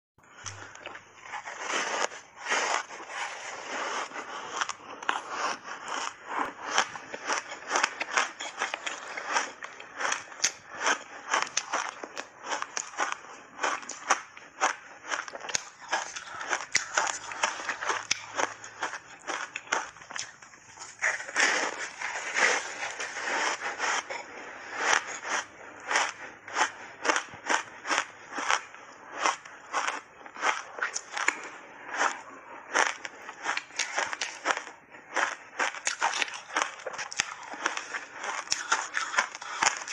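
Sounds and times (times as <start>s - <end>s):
ice crunching in mouth: 0.3s - 39.9s.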